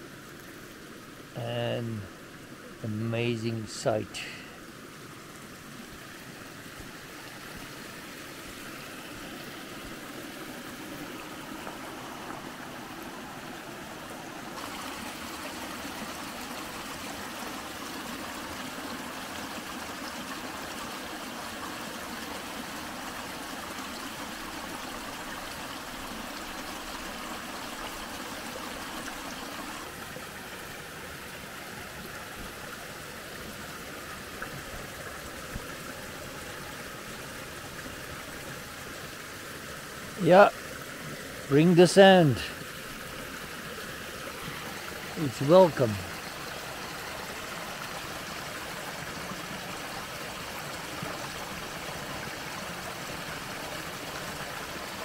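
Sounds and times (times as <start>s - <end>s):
water flowing over sandy ground: 0.0s - 55.0s.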